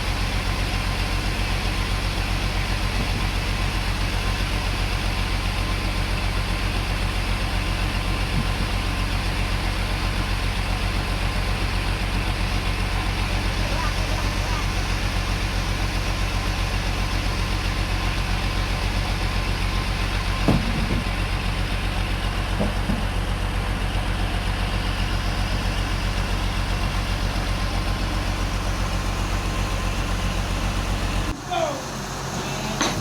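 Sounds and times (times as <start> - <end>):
sawmill engine running: 0.0 - 33.0.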